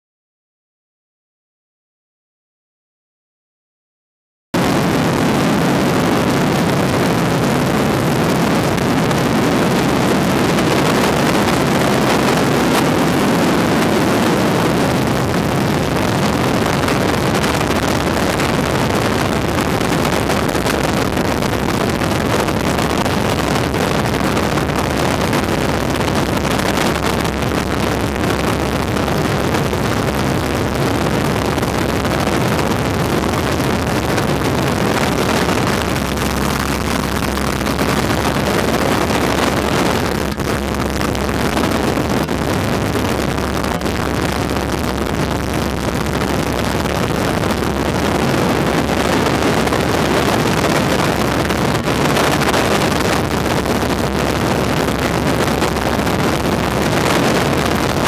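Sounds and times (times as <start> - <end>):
wind rush on microphone: 4.6 - 58.0.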